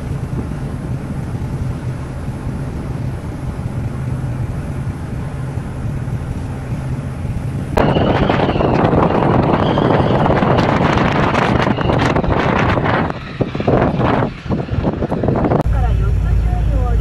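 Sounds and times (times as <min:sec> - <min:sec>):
boat engine drone: 0:00.0 - 0:17.0
water rushing along hull: 0:00.0 - 0:17.0.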